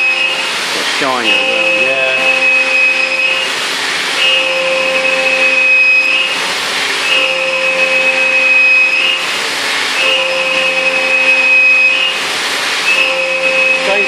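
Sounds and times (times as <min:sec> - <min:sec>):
milling machine whine: 0:00.0 - 0:14.0.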